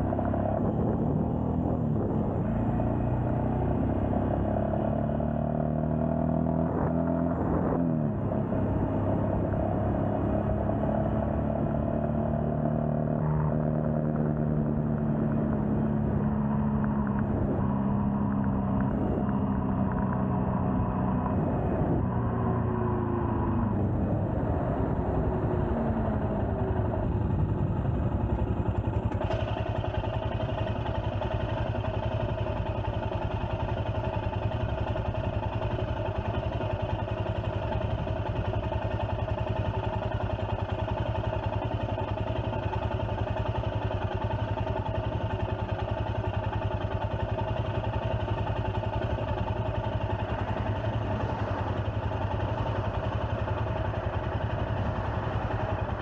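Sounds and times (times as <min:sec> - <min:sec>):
motorcycle engine slowing and idling: 0:00.0 - 0:56.0.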